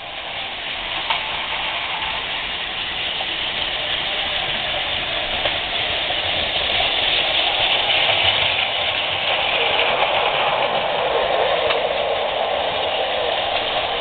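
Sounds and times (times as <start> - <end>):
toy trains whirring rattle: 0.0 - 14.0.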